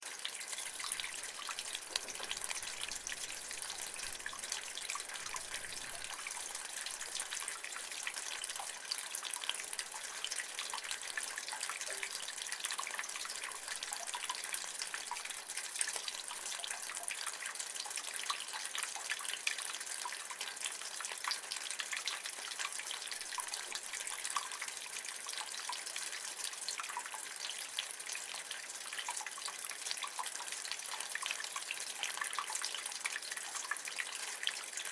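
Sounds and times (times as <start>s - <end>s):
rainwater splashing from gutter: 0.0s - 34.9s
small quick drips: 0.0s - 34.9s.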